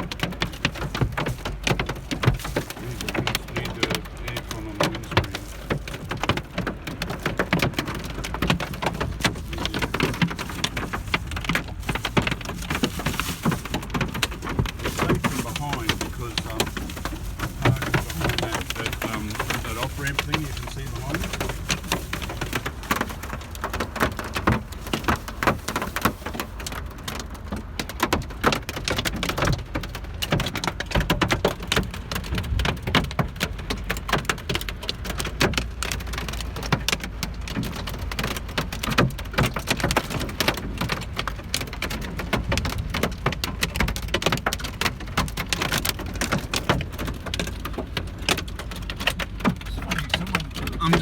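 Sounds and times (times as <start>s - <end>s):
hailstones hammering on car roof: 0.0s - 51.0s.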